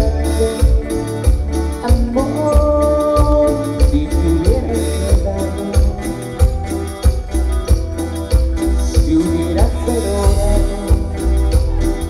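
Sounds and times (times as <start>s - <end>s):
latin dance band playing: 0.0s - 12.0s
repeating percussion beat: 0.0s - 12.0s
strong bass: 0.0s - 12.0s.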